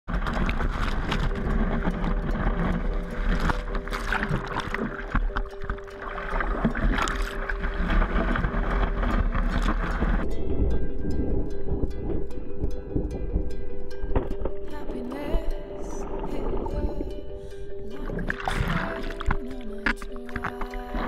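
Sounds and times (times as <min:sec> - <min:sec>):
ocean surf rushing and splashing: 0:00.1 - 0:19.6.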